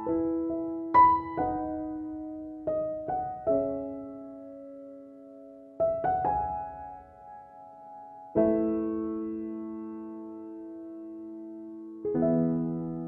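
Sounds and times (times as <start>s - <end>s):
slow solo piano music: 0.0s - 13.0s.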